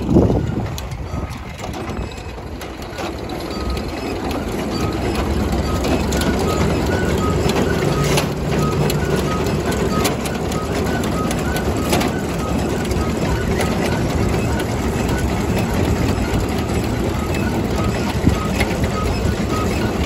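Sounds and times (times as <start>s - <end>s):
regular squeak: 0.0s - 20.0s
threshing machine rattling: 0.0s - 20.0s.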